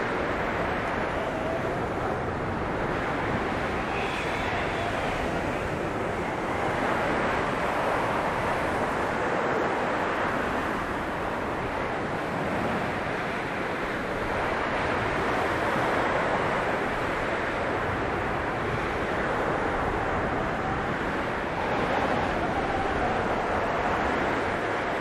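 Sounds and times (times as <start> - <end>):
blizzard wind blowing: 0.0 - 25.0.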